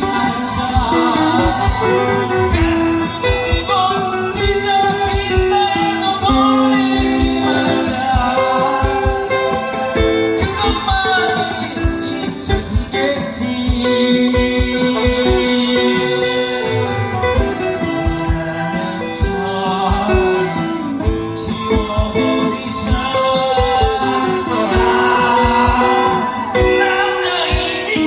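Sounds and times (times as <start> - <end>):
instrumental accompaniment with beat: 0.0 - 28.0
person singing: 0.0 - 28.0.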